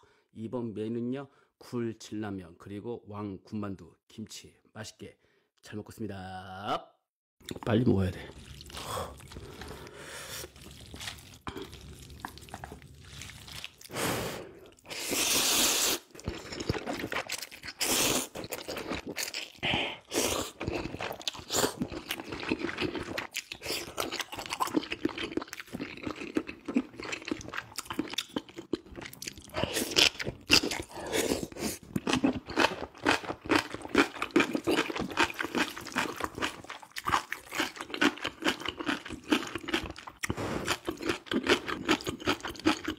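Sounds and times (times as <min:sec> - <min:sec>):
person chewing noodles: 0:08.3 - 0:42.9.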